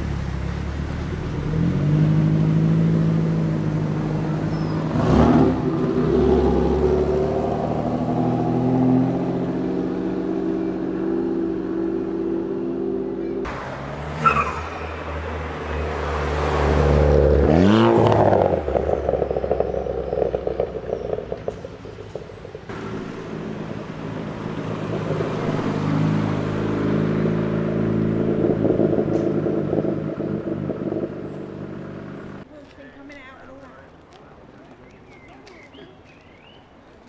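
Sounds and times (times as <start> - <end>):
car engine revving and crackling: 0.0 - 32.5
second car engine pulling away: 0.0 - 32.5.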